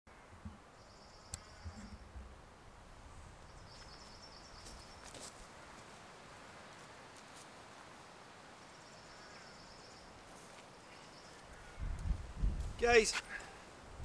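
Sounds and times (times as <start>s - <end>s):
faint steady hiss: 0.1s - 14.0s.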